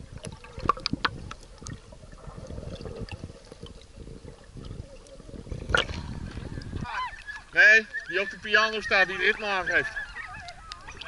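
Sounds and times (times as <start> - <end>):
underwater gurgling and sloshing: 0.0 - 11.0.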